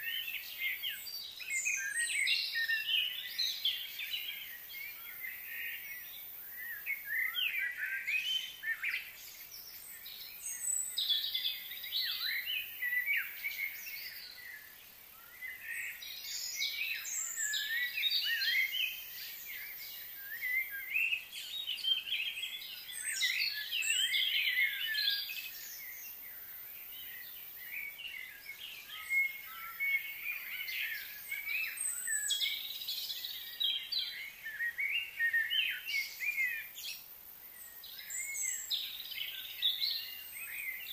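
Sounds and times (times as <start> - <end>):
faint high hiss: 0.0 - 40.9
small birds chirping: 0.0 - 40.9.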